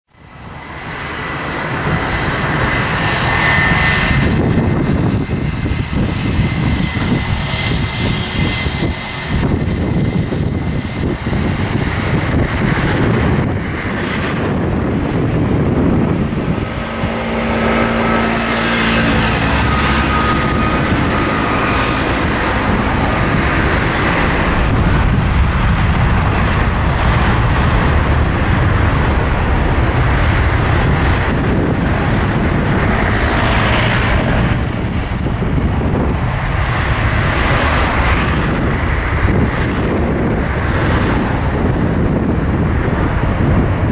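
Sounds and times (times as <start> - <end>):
jet engines whining and rumbling: 0.1 - 43.9.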